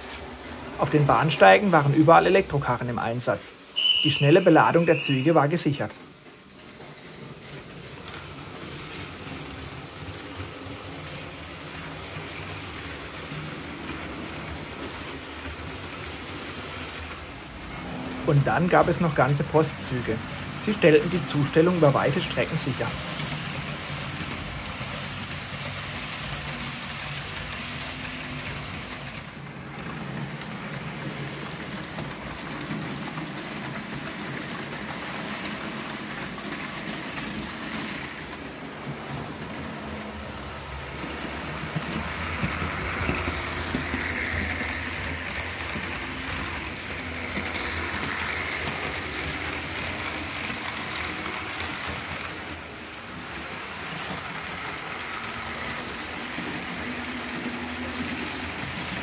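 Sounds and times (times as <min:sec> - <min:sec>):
train rolling rumble: 0:00.0 - 0:59.0.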